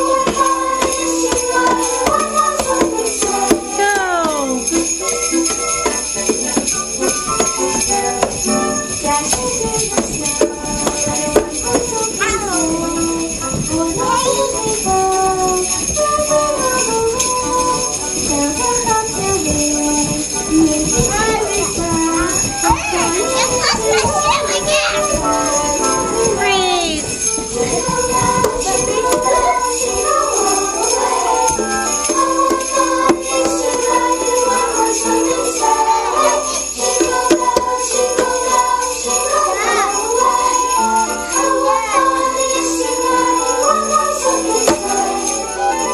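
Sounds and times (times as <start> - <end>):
sleigh bells jingling: 0.0 - 45.9.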